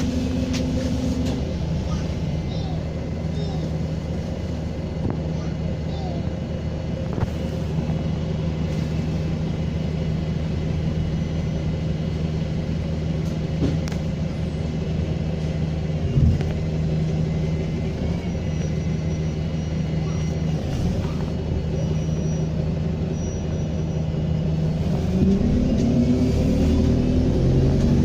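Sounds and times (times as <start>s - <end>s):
bus diesel engine rumbling: 0.0s - 28.0s.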